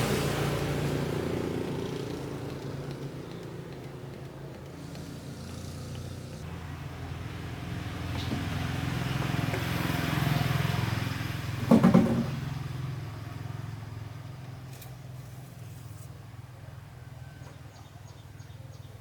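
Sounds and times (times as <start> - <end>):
vehicle engine running: 0.0 - 16.7.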